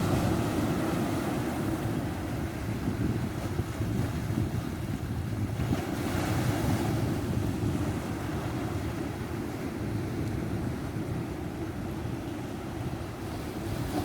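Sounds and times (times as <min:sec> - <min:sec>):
ocean waves breaking on shore: 0:00.0 - 0:14.0
wind buffeting microphone: 0:00.0 - 0:14.0.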